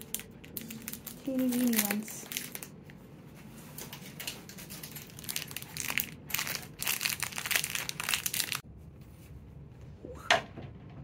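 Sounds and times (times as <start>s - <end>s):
crinkling and rustling: 0.0s - 9.4s.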